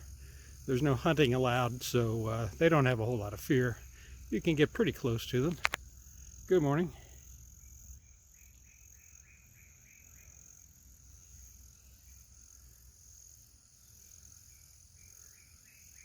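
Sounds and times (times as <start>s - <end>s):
faint high insect drone: 0.0s - 16.0s.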